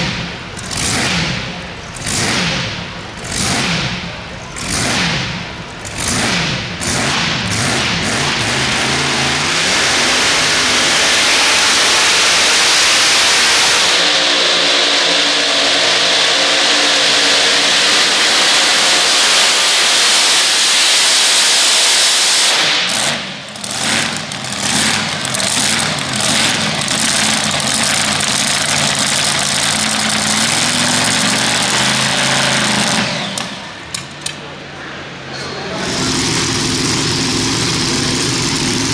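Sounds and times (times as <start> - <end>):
tractor engine revving at high revs: 0.0 - 34.6, 35.7 - 38.9.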